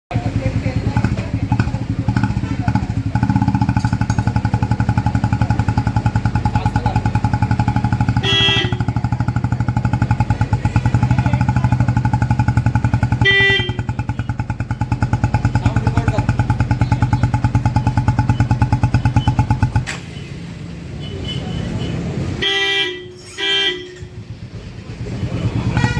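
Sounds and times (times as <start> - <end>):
motorcycle engine idling: 0.1 - 20.2, 22.4 - 25.9.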